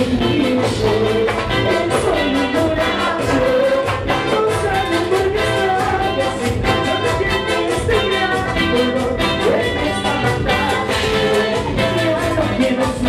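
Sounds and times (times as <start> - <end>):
band playing latin dance music: 0.0 - 13.0.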